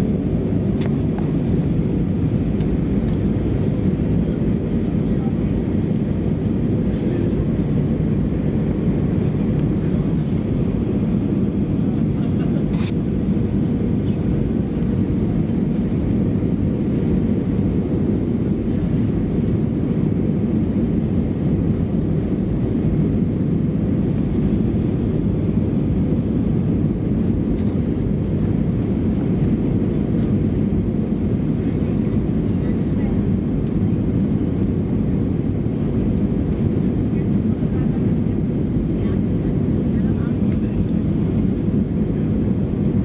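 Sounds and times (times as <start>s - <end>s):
aircraft engines and airflow rush: 0.0s - 43.0s.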